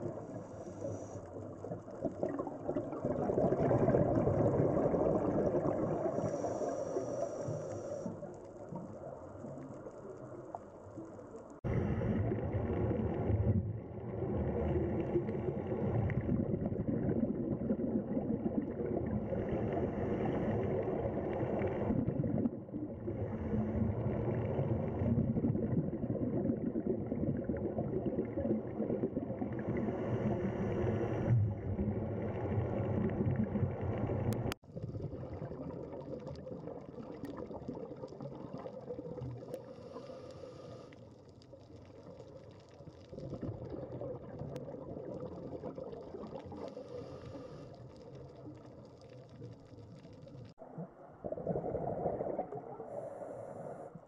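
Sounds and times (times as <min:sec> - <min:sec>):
hissy water ambience: 0:00.0 - 0:16.3, 0:18.5 - 0:21.9, 0:28.7 - 0:31.4, 0:32.0 - 0:54.0
underwater rushing and gurgling: 0:00.0 - 0:54.0.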